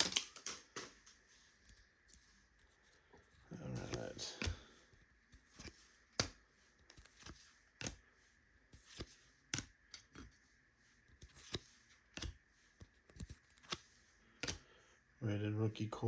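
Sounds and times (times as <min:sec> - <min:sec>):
cards clicking and flicking: 0:00.0 - 0:02.8, 0:03.4 - 0:10.4, 0:11.1 - 0:14.7.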